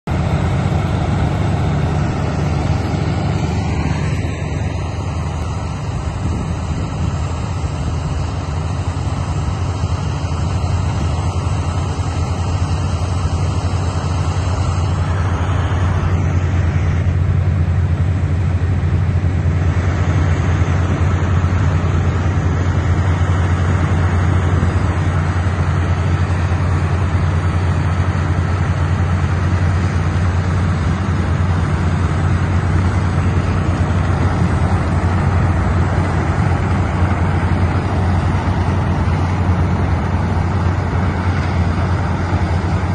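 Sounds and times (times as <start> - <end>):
water well blowing out: 0.0 - 42.9.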